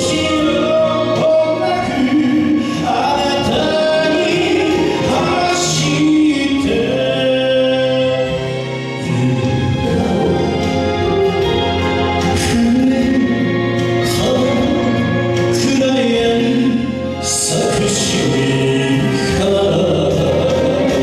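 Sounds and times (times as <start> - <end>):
instrumental accompaniment: 0.0 - 21.0
man singing into microphone: 0.0 - 21.0.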